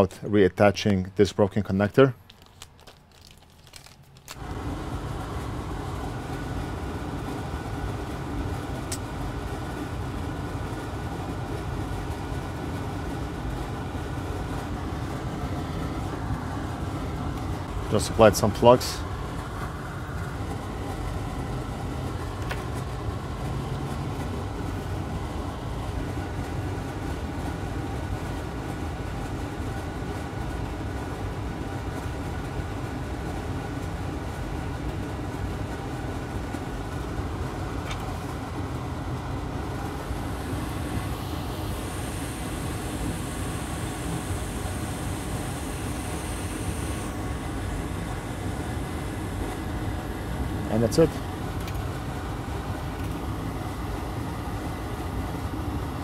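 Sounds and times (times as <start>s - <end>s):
low machinery noise: 0.0s - 56.0s.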